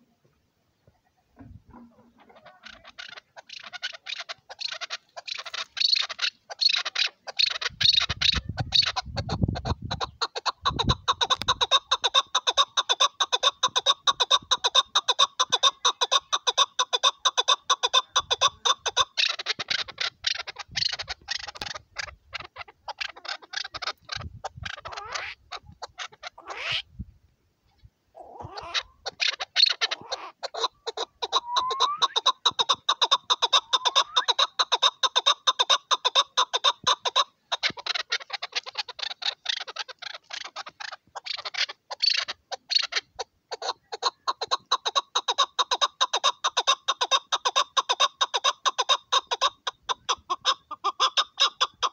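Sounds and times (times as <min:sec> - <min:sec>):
partridge calling: 0:00.8 - 0:27.0, 0:27.7 - 0:51.9.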